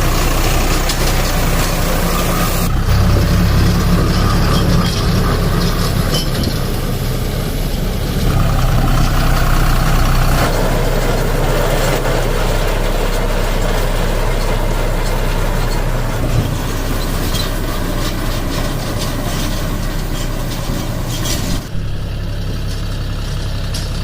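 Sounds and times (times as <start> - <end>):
baler mechanical clatter: 0.0 - 24.0
tractor diesel engine running: 0.0 - 24.0.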